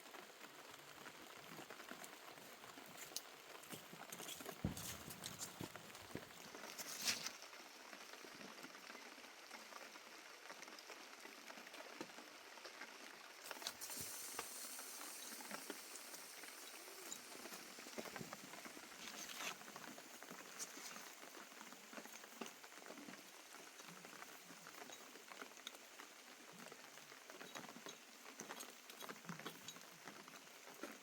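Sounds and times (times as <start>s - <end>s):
faint rain patter: 0.0s - 31.0s.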